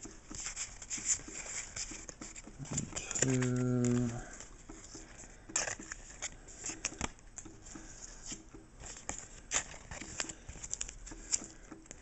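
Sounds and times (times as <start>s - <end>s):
trading cards sliding and tapping: 0.0s - 12.0s.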